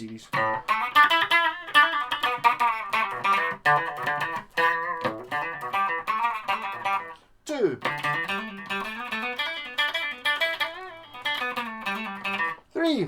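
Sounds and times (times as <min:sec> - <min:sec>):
electric guitar picked notes: 0:00.3 - 0:07.2, 0:07.8 - 0:12.6.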